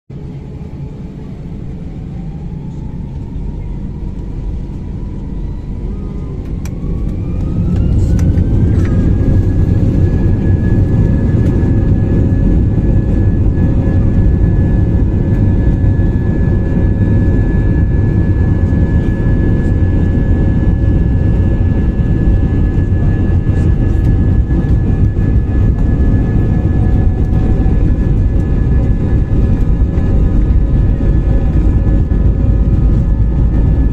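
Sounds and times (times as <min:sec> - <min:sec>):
jet engines spooling up: 0:00.5 - 0:33.9.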